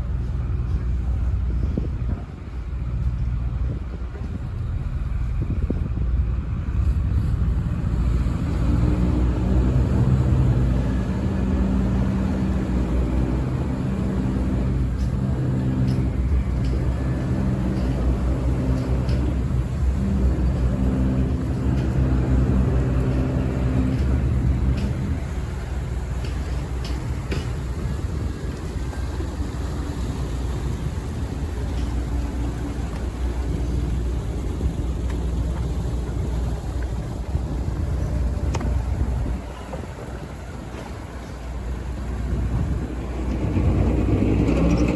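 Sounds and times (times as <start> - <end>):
boat engine rumbling: 0.0 - 44.9.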